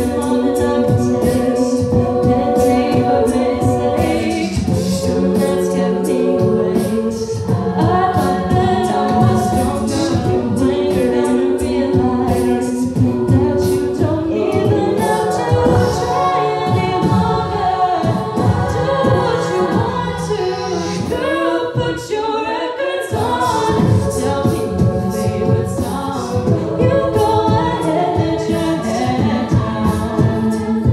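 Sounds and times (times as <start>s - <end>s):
beatboxed vocal percussion: 0.0s - 22.4s, 23.0s - 30.9s
women singing a cappella: 0.0s - 30.9s.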